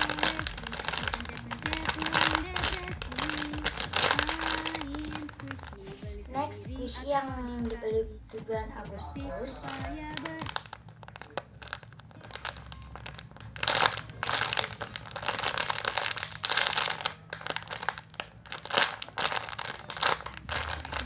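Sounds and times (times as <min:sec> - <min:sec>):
plastic crinkling and rustling: 0:00.0 - 0:06.0, 0:09.4 - 0:21.0.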